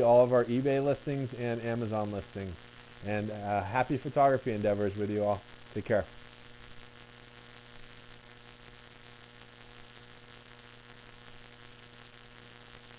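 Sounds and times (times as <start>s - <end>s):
electrical mains hum: 0.0s - 12.9s
faint hiss: 0.0s - 12.9s.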